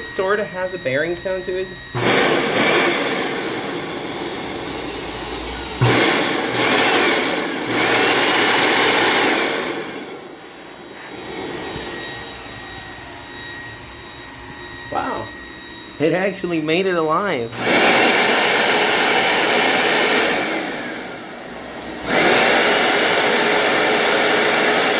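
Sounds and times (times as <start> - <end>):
vacuum cleaner motor whine: 0.0 - 24.9.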